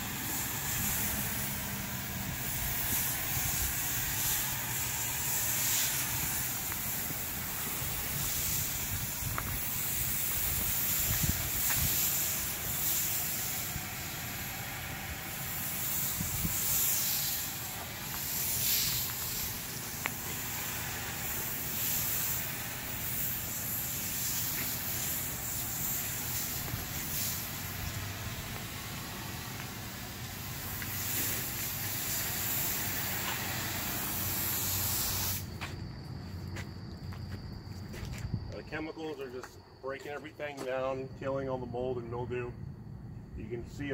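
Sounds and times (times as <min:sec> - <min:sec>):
hose spray hissing: 0:00.0 - 0:35.8.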